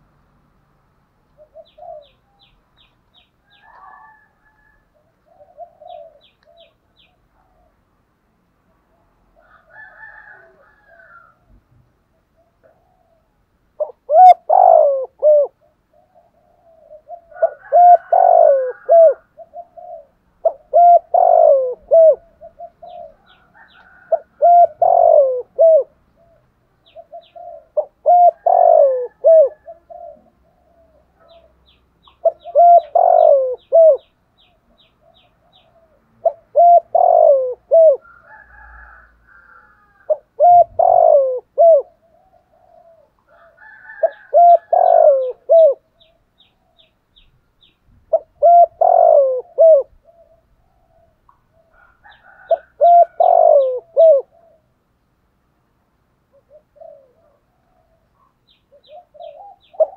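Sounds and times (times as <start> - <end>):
dove cooing: 1.4 - 7.9, 8.9 - 47.0, 47.6 - 54.8, 56.3 - 59.9.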